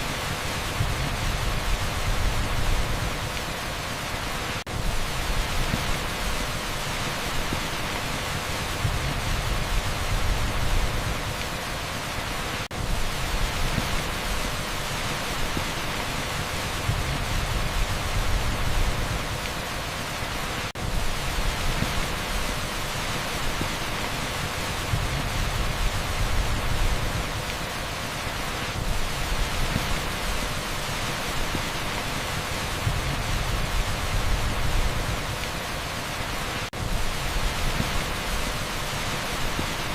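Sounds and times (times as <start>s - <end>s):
torrential rain on asphalt: 0.0s - 39.9s.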